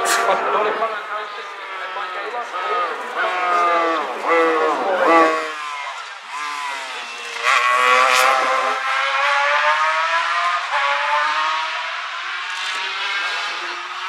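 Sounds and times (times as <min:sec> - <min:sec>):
racing engines at high revs passing: 0:00.0 - 0:14.0.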